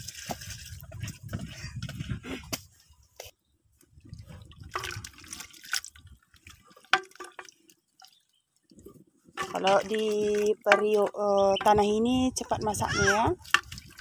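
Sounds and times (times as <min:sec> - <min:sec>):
liquid sloshing and dripping: 0:00.0 - 0:01.5, 0:03.8 - 0:14.0.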